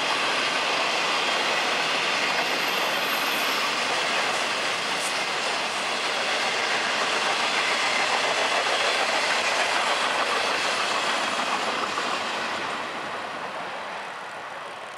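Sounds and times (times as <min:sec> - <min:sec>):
train wheels rolling over rails: 0:00.0 - 0:14.9.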